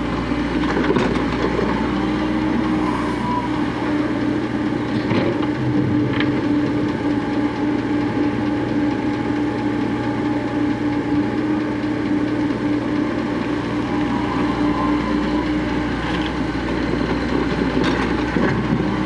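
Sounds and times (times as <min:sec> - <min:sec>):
heavy diesel engines running: 0:00.0 - 0:19.0.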